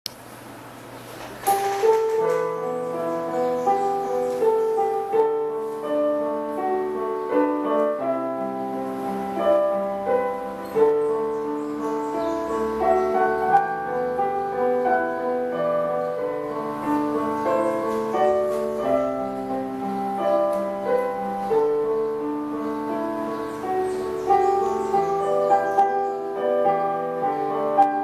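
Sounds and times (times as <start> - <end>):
solo digital piano: 0.4 - 28.0.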